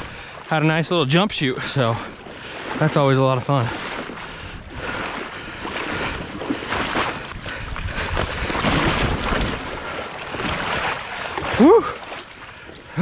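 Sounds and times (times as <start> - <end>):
water sloshing around boots: 0.0 - 13.0
wind buffeting microphone: 1.2 - 12.0.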